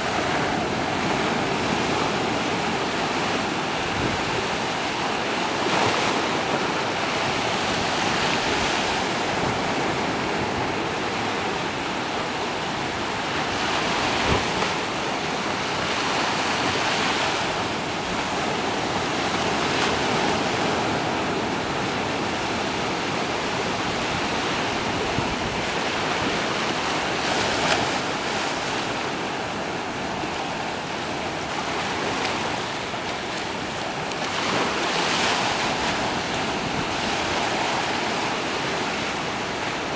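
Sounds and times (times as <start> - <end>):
small waves washing on shore: 0.0 - 39.9
wind: 0.0 - 39.9.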